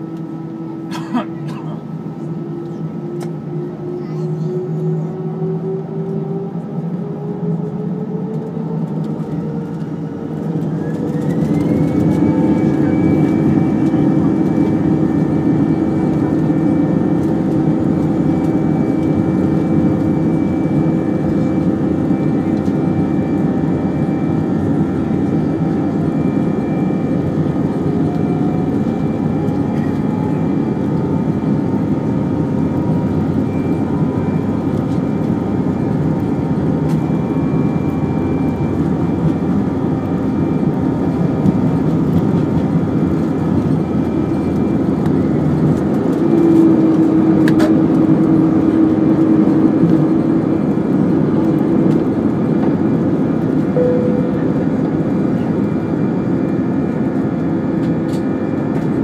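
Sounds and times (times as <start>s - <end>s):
jet engines spooling up: 1.9s - 59.0s.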